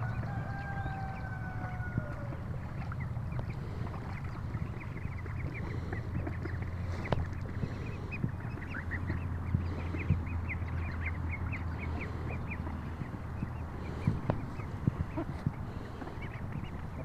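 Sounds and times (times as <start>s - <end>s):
ducklings and goslings peeping: 0.0s - 17.0s
steady low rumble: 0.0s - 17.0s.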